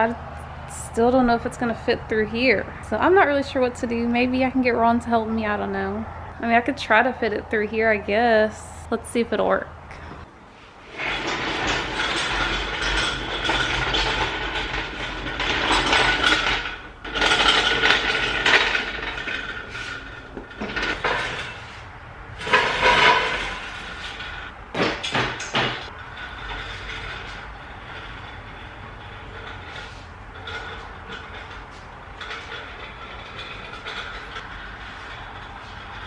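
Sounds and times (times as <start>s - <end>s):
metal hoist scraping and rattling: 0.0s - 36.0s.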